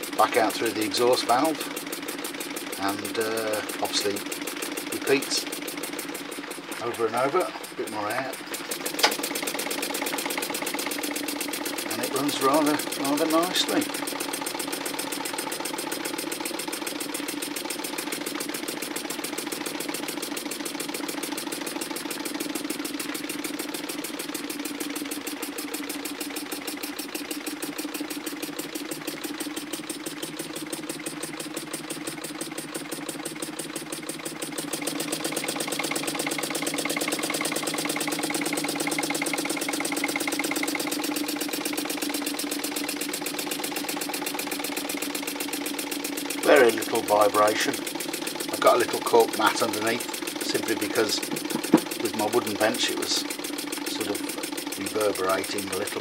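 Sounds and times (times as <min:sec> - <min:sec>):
model air engine running: 0:00.0 - 0:56.0.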